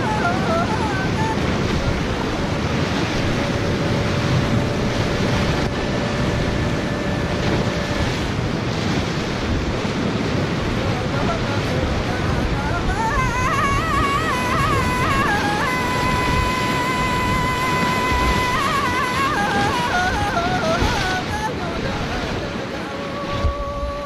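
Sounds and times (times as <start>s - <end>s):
whitewater rushing: 0.0s - 24.0s
wind buffeting microphone: 0.0s - 24.0s.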